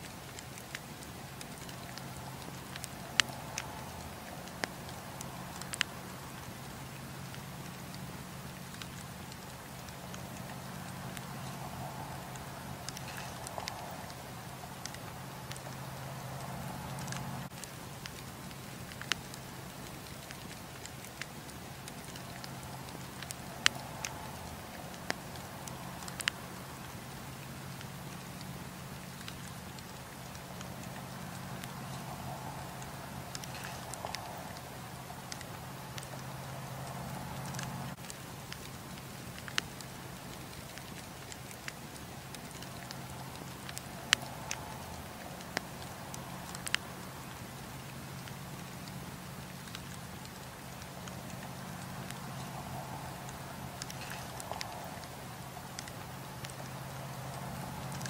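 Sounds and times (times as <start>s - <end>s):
campfire crackling: 0.0s - 58.0s
low steady hum: 0.0s - 58.0s.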